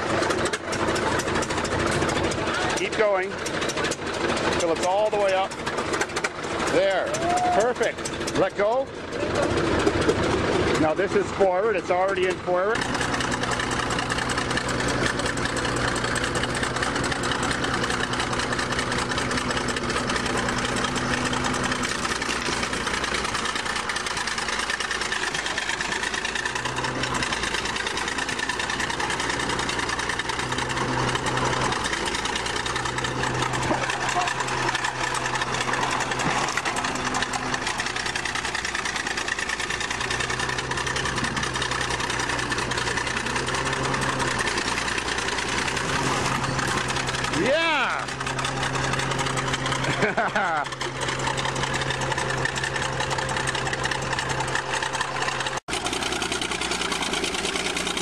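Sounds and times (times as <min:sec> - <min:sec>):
bulldozer engine chugging: 0:00.0 - 0:58.0.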